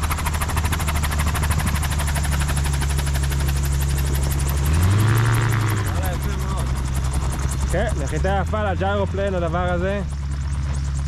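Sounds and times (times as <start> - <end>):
gyroplane engine and propeller: 0.0 - 11.0.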